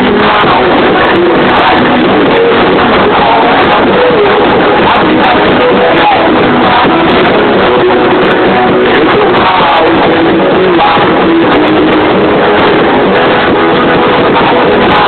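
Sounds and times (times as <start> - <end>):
rock music through car speakers: 0.0 - 15.0.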